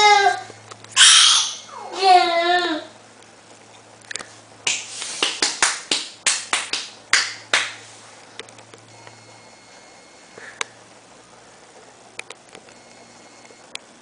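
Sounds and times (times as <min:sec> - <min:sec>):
faint low hum: 0:01.6 - 0:14.0.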